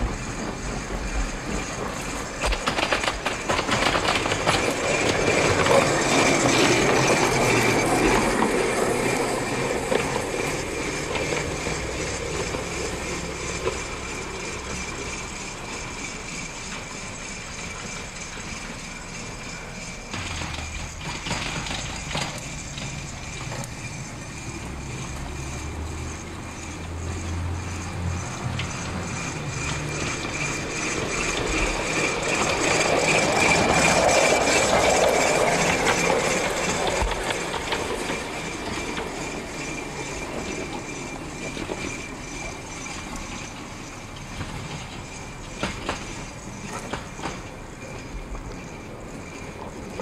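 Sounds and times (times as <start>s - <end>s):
model streetcar humming on track: 0.0s - 50.0s.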